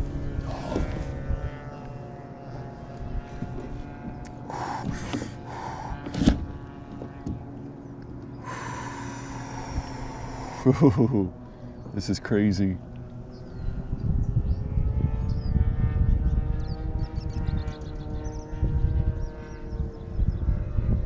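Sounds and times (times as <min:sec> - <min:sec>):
distant engine drone: 0:00.0 - 0:21.0.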